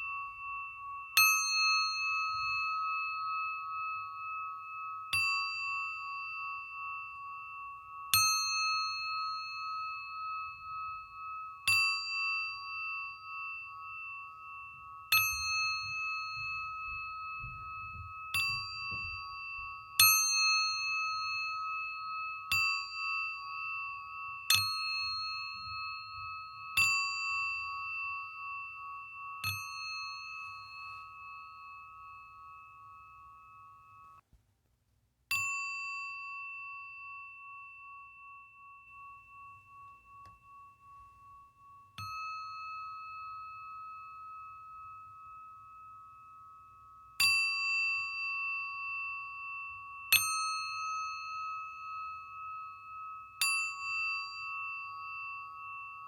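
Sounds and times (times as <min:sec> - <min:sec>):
singing bowl ringing: 0:00.0 - 0:34.2, 0:35.3 - 0:56.0.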